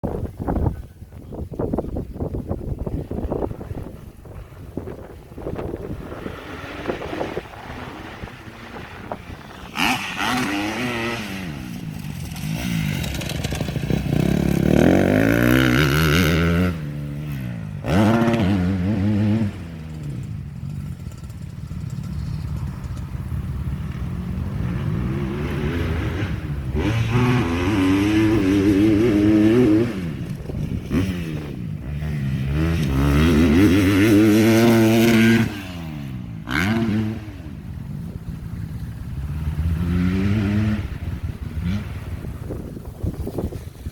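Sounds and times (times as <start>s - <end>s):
motocross bike engine revving: 4.8s - 43.9s.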